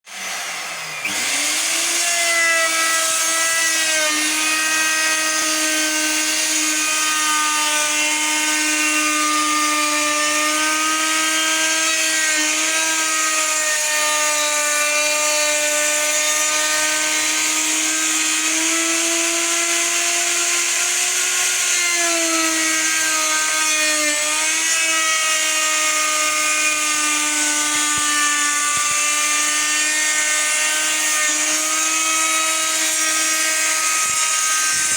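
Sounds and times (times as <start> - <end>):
wood router whining: 0.0 - 34.9.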